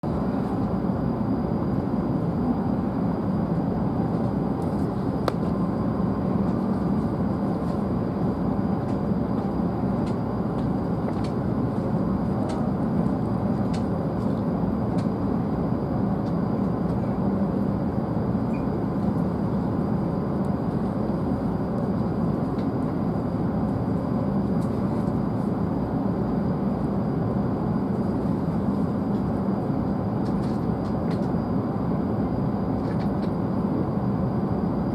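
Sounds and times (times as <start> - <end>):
train cabin rumble and hum: 0.0 - 34.9.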